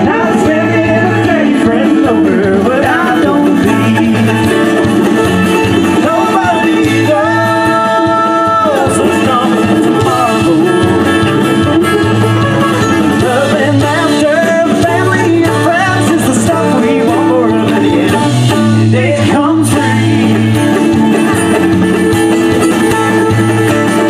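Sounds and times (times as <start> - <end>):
acoustic guitars: 0.0 - 24.0
steady bass line: 0.0 - 24.0.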